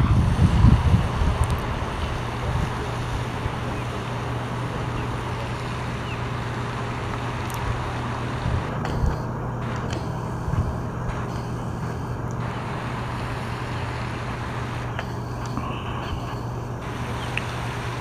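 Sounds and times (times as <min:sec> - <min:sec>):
constant low hum: 0:00.0 - 0:18.0
low background rumble: 0:00.0 - 0:18.0.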